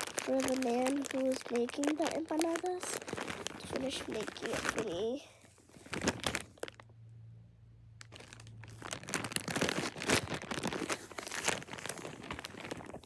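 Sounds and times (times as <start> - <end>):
plastic bag crinkling: 0.0 - 7.0, 8.0 - 13.0.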